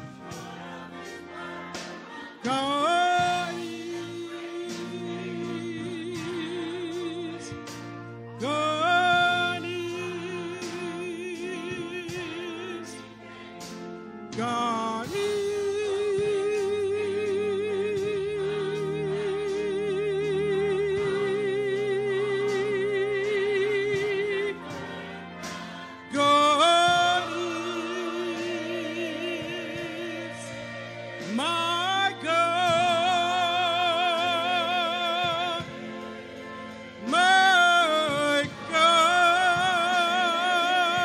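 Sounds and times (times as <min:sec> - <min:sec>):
gospel choir singing: 0:00.0 - 0:41.0
sustained low organ tones: 0:00.0 - 0:41.0.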